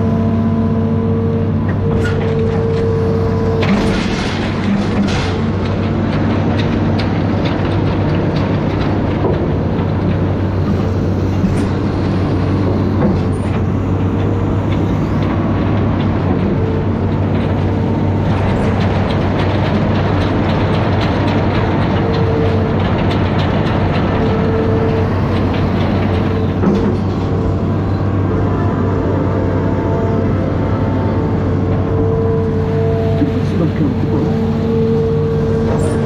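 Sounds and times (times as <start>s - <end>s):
diesel engine running: 0.0s - 36.0s
machine knocks and clanks: 1.6s - 36.0s.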